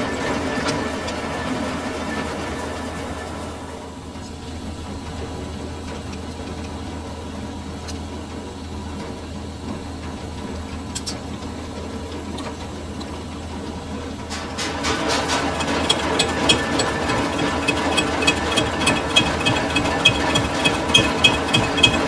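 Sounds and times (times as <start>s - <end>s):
metal lathe motor hum: 0.0s - 22.0s.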